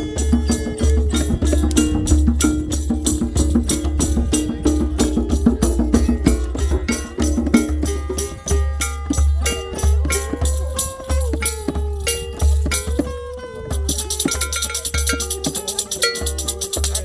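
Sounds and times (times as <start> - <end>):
fast hand percussion: 0.0 - 17.0
sliding wavering melody instrument: 0.0 - 17.0.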